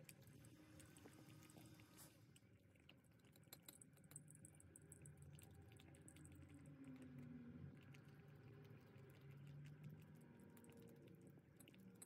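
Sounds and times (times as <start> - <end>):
cat eating wet food: 0.0 - 12.0
low room hum: 0.0 - 12.0.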